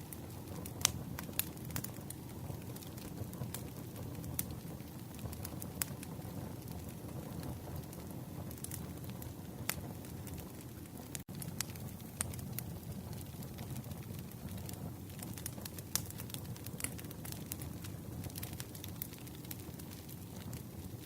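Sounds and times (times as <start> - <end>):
wood campfire crackling: 0.0 - 21.0.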